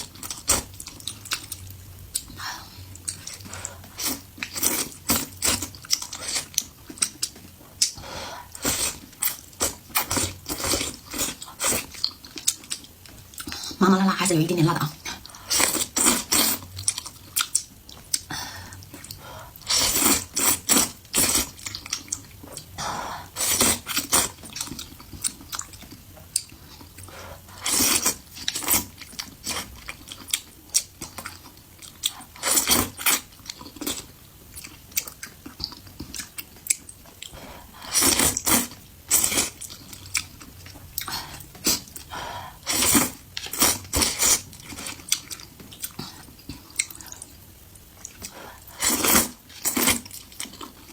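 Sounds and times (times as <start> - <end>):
person chewing noodles: 0.0 - 13.8, 15.0 - 50.9.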